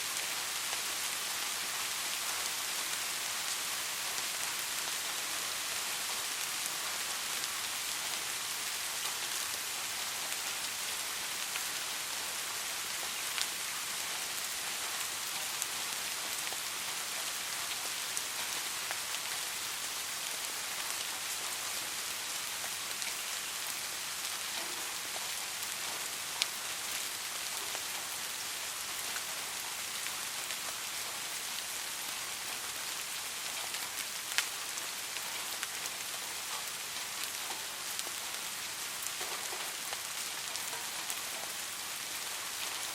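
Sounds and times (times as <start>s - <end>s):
soft rain falling: 0.0s - 42.9s.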